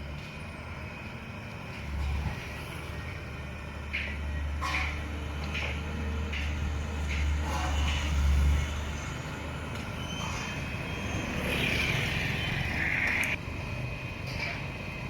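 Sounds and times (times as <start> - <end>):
construction vehicle engine running: 0.0 - 15.0.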